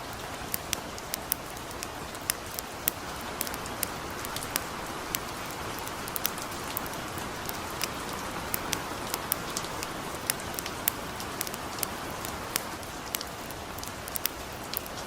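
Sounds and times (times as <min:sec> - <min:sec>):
campfire crackling and popping: 0:00.0 - 0:15.0
gentle rain hiss: 0:00.0 - 0:15.0.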